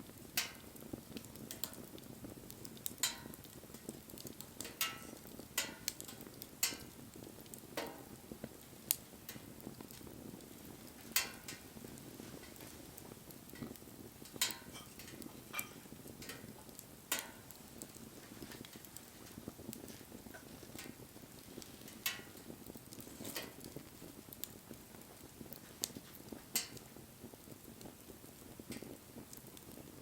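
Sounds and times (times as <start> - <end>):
bonfire crackling: 0.0 - 30.0
soft hiss of burning: 0.0 - 30.0.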